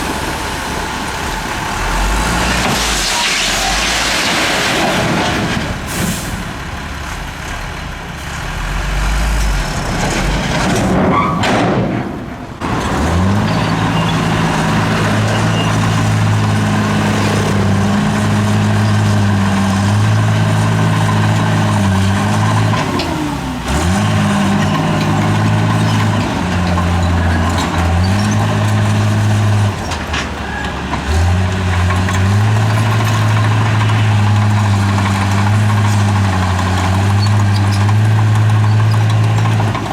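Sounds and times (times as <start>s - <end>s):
heavy diesel engine working hard: 0.0s - 39.9s.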